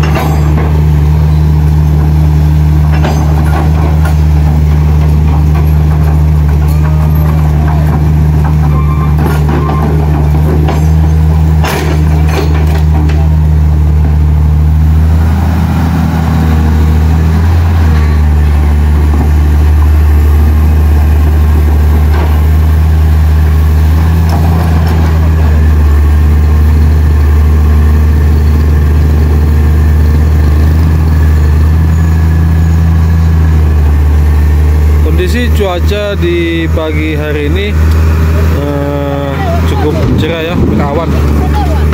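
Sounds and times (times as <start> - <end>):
heavy vehicle engine idling: 0.0 - 41.9.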